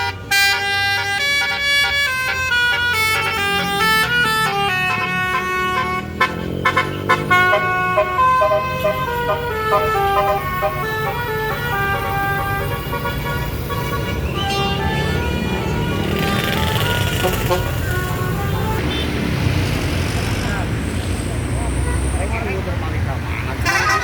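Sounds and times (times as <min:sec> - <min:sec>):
bus horn playing a tune: 0:00.0 - 0:19.0, 0:23.6 - 0:24.0
bus engine rumbling: 0:00.0 - 0:24.0.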